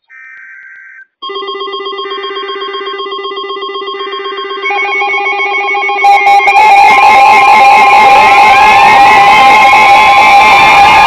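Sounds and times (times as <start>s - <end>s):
warbling electronic alarm: 1.0s - 11.0s
digital header tones: 1.2s - 11.0s
higher-pitched alarm: 1.2s - 11.0s.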